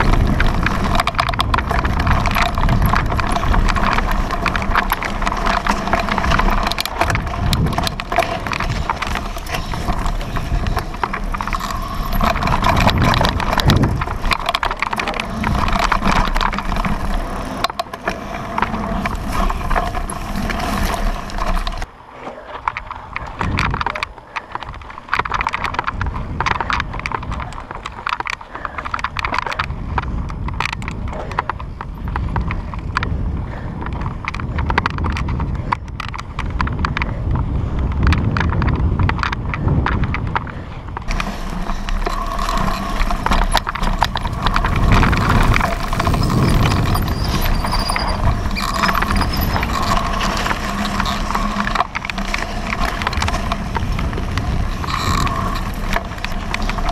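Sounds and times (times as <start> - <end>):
bike rattling and knocking: 0.0 - 21.9, 22.7 - 56.9
tyre noise: 0.0 - 56.9.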